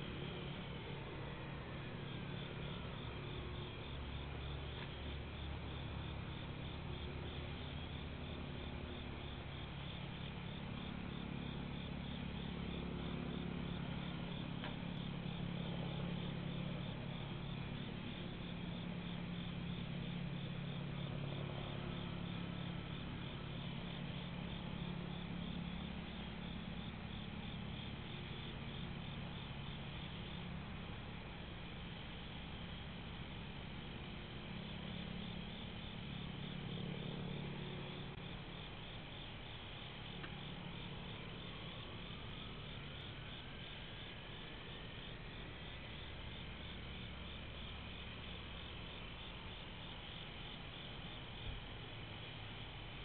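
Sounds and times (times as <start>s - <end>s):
low steady hum: 0.0s - 53.0s
night insects chirping: 0.0s - 53.0s.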